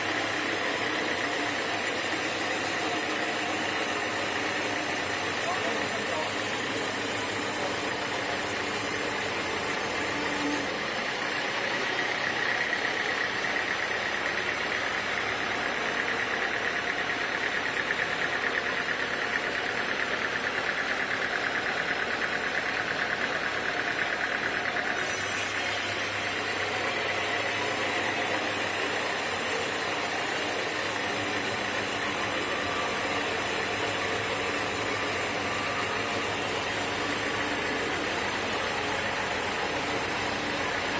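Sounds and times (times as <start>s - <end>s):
sawmill machinery drone with whine: 0.0s - 40.9s.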